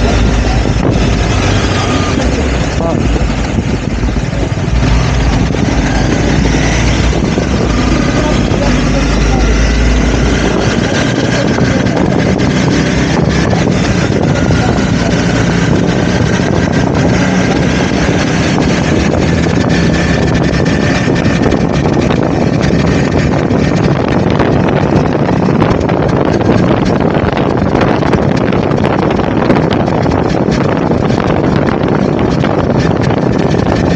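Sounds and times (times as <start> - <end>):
motorcycle engine running: 0.0 - 33.9
wind on microphone: 0.0 - 33.9.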